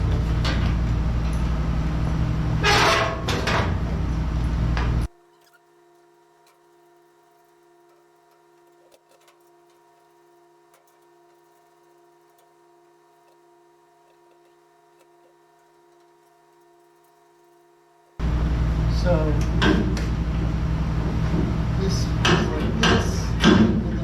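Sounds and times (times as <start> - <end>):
faint electrical hum: 0.0 - 24.0.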